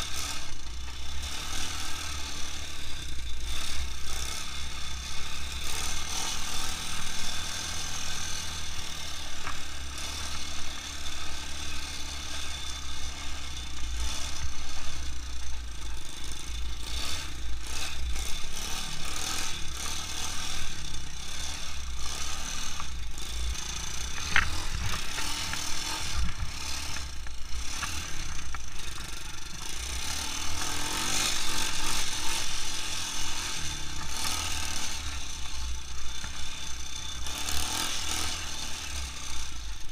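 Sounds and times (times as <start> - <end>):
machine rattling: 0.0 - 39.8
quad bike engine running: 0.0 - 39.9.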